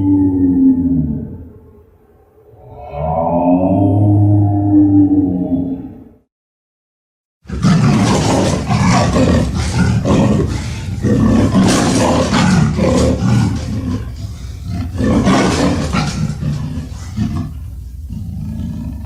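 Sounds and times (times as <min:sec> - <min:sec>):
dinosaur roar: 0:00.0 - 0:01.8, 0:02.4 - 0:06.2, 0:07.5 - 0:19.0.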